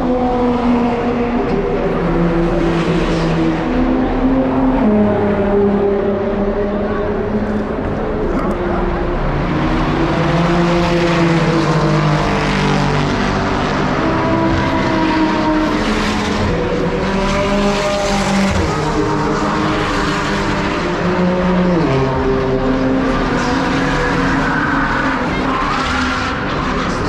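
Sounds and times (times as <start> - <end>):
supercar engines running hard: 0.0 - 27.0.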